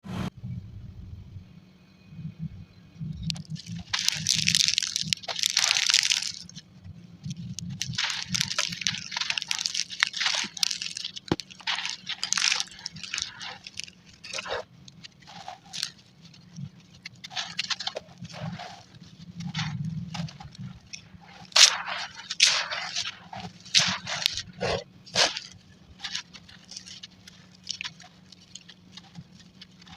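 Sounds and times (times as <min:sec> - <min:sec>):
crumbly chunks crunching: 0:03.2 - 0:29.9.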